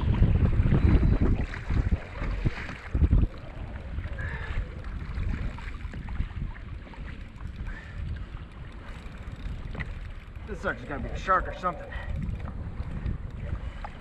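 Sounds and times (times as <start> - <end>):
choppy sea washing: 0.0 - 14.0
wind buffeting microphone: 0.0 - 14.0.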